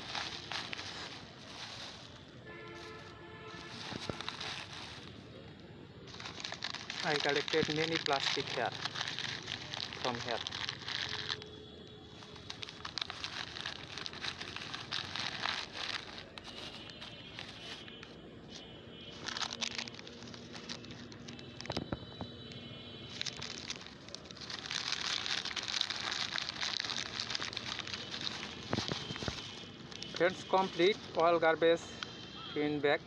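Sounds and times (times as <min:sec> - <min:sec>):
plastic bags crinkling: 0:00.0 - 0:32.0.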